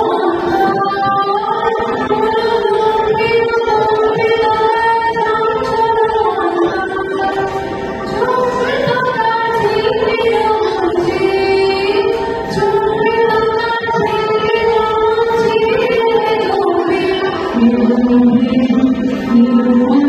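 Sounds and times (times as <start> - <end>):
woman singing into a microphone: 0.0 - 20.0.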